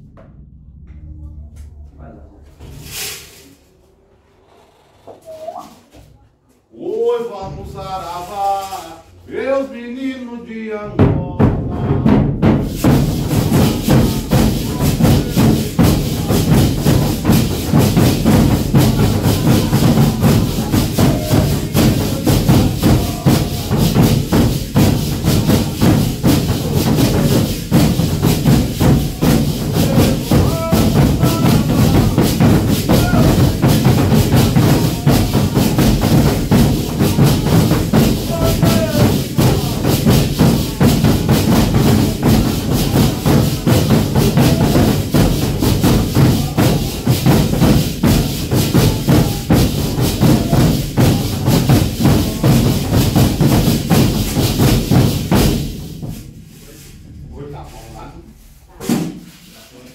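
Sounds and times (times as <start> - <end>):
drums beaten with sticks: 10.9 - 59.8.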